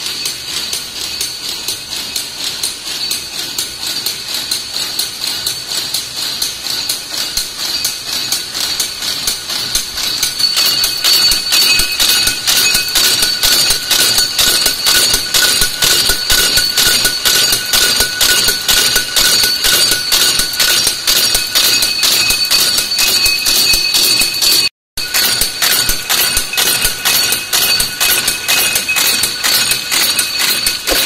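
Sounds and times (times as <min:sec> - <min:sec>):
machines clattering: 0:00.0 - 0:31.0.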